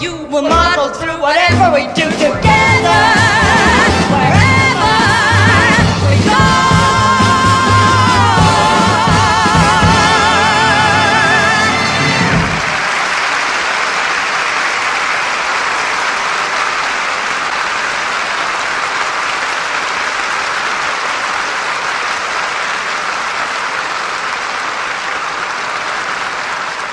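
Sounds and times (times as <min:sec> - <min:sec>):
audience applauding: 0:02.9 - 0:26.9.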